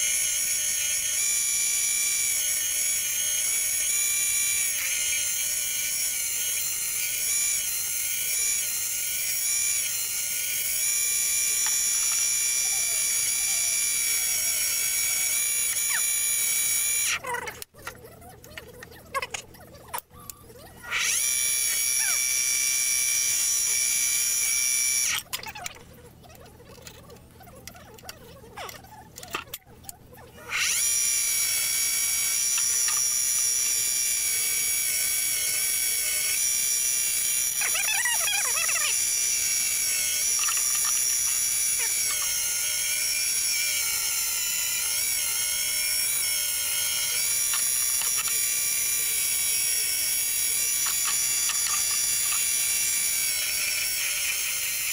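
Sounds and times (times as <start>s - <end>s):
wood lathe motor whine: 0.0s - 17.6s, 20.8s - 25.3s, 30.4s - 54.9s.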